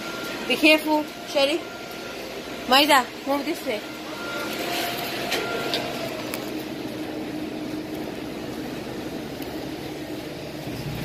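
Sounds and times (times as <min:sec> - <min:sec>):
store background hum and hiss: 0:00.0 - 0:11.0.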